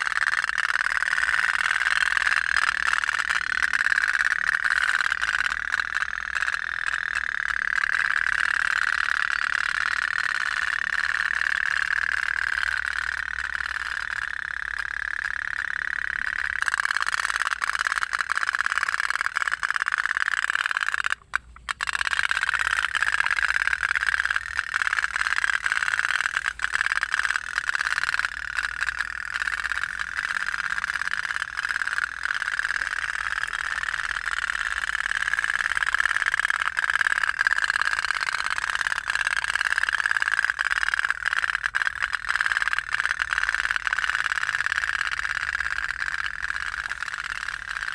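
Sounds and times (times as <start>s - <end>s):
toy boat putt-putt rattle: 0.0s - 47.9s.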